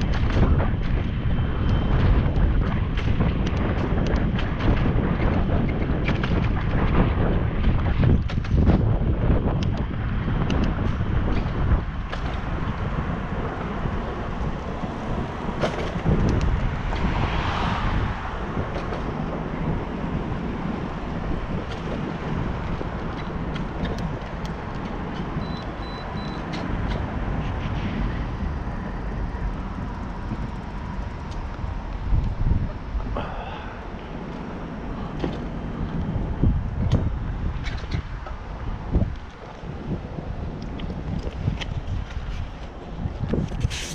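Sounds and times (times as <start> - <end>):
road and tyre rumble: 0.0 - 43.9
wind buffeting microphone: 0.0 - 43.9.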